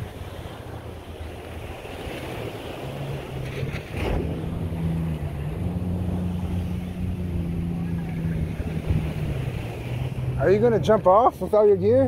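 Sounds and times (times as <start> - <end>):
engine humming: 0.0 - 12.0
surf: 0.0 - 12.0
wind: 0.0 - 12.0.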